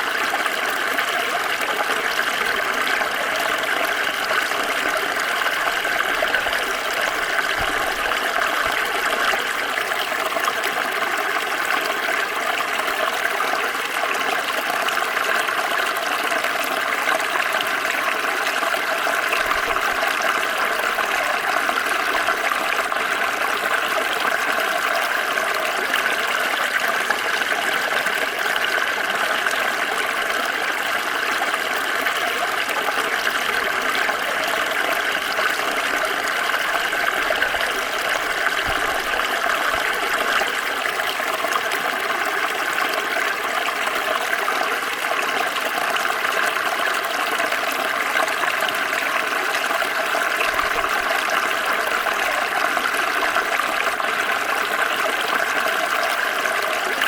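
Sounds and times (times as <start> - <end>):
small stream flowing: 0.0 - 57.0.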